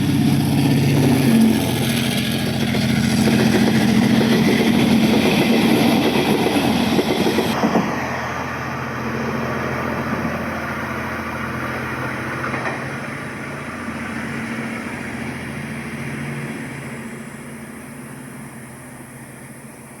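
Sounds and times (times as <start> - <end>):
diesel engine hum from model train: 0.0 - 20.0.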